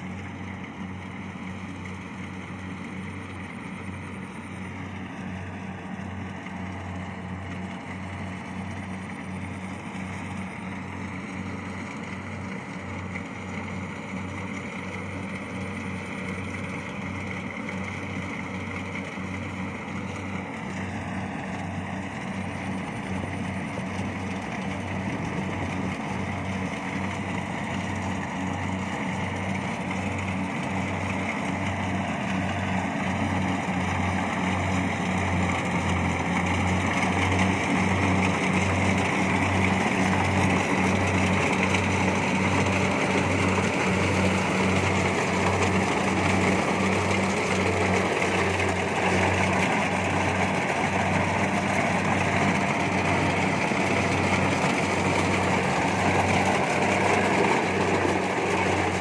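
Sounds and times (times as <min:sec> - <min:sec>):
combine harvester engine running: 0:00.0 - 0:59.0.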